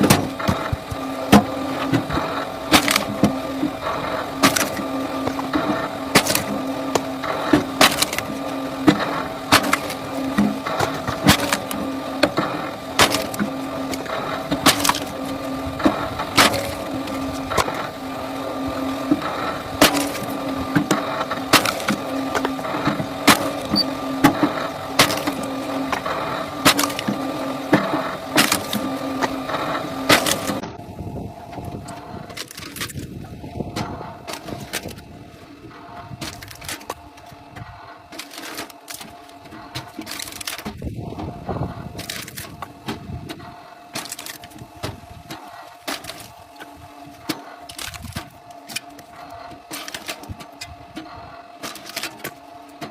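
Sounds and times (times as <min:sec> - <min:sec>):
firewood cracking as it is split: 0:00.0 - 0:30.7, 0:31.6 - 0:35.1, 0:36.2 - 0:37.3, 0:38.1 - 0:41.2, 0:41.9 - 0:50.7, 0:51.6 - 0:52.9
steady machine hum: 0:00.0 - 0:52.9.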